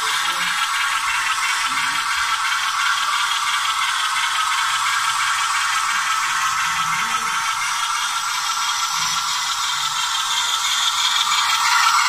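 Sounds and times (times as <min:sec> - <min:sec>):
model train rattling and whirring: 0:00.0 - 0:12.0.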